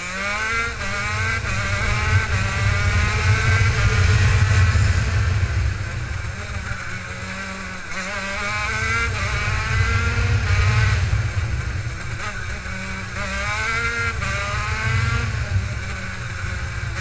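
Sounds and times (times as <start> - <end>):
kart engine revving: 0.0 - 17.0
low rumble: 0.6 - 17.0.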